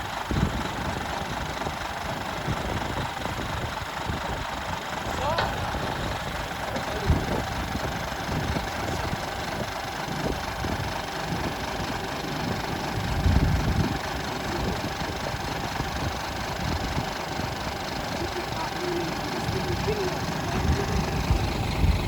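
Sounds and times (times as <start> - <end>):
truck diesel engine idling: 0.0 - 22.0.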